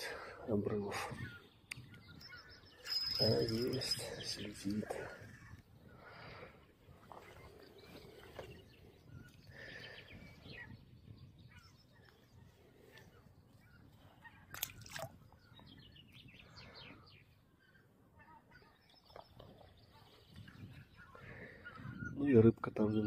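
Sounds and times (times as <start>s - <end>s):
faint bird chirps: 0.2s - 23.0s.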